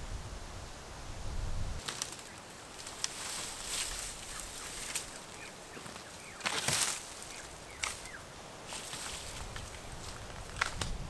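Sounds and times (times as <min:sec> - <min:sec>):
brushy rustling of branches: 0:00.0 - 0:11.0
dry sticks cracking and snapping: 0:01.8 - 0:11.0.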